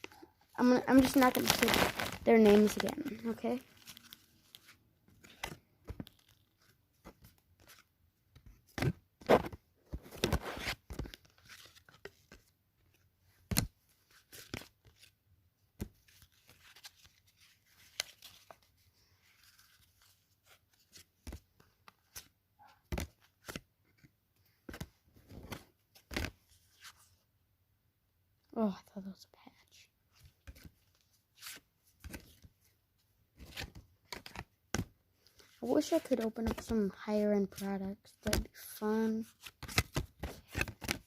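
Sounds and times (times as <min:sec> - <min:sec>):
cards being flicked and sorted: 0:00.0 - 0:27.0, 0:30.2 - 0:32.6, 0:33.3 - 0:41.0.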